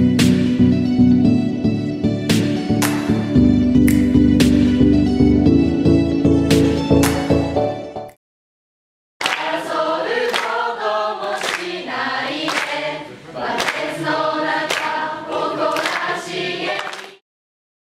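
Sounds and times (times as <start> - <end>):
choir-like music with beat: 0.0 - 7.7, 9.2 - 17.2.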